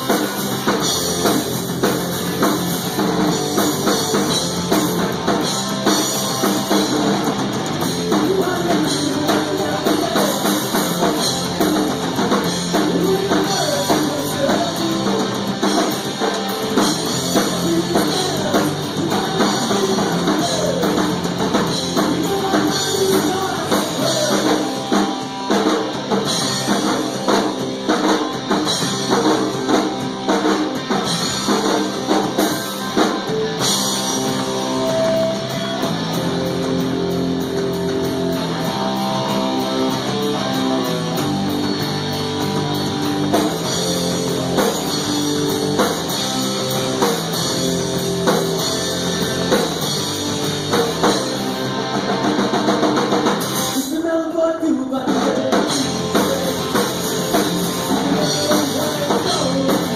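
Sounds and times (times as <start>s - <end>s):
driving drums: 0.0s - 59.9s
electric guitars: 0.0s - 59.9s.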